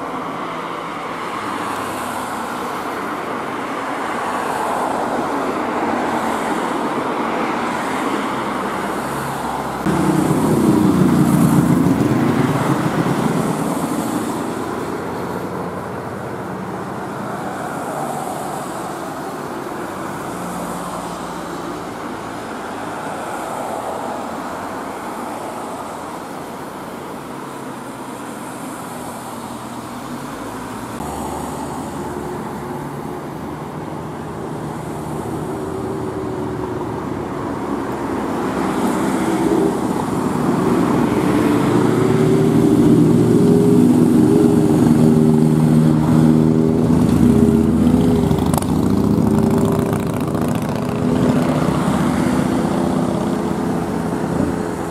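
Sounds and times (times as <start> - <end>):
steady rushing noise: 0.0 - 54.9.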